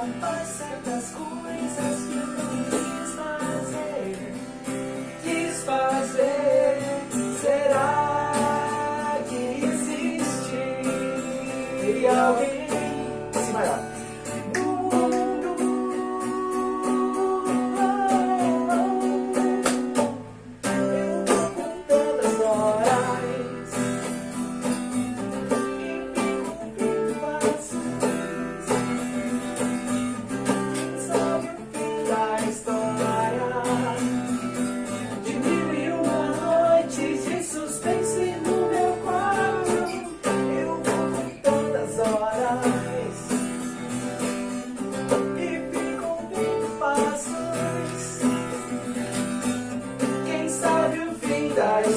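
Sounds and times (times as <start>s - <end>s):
bending guitar melody: 0.0s - 51.9s
pop-rock guitar chords: 0.0s - 51.9s.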